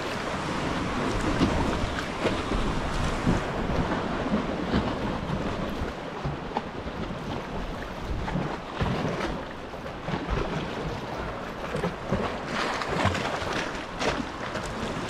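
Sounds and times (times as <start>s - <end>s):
swell washing against rocks: 0.0s - 15.0s
water splashing around kayak: 0.0s - 15.0s
wind buffeting microphone: 0.0s - 15.0s.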